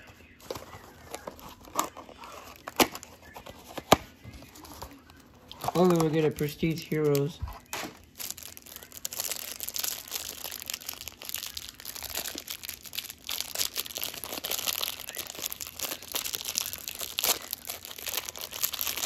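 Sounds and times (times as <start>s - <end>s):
plastic wrapping crinkling: 0.0s - 19.0s.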